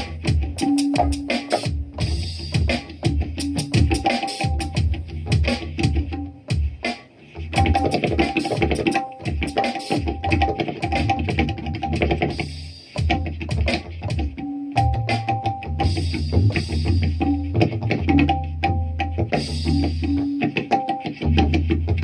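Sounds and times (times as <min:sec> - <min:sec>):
electronic tabla strokes: 0:00.0 - 0:22.0.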